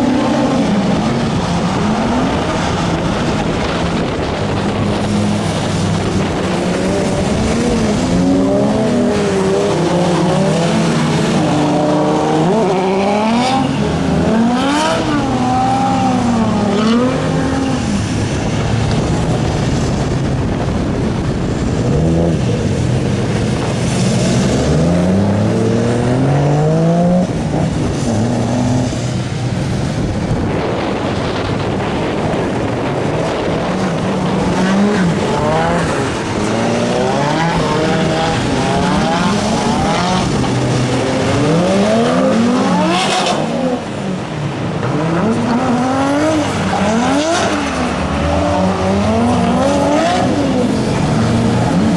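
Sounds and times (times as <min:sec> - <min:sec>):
race car engines revving: 0:00.0 - 0:51.9.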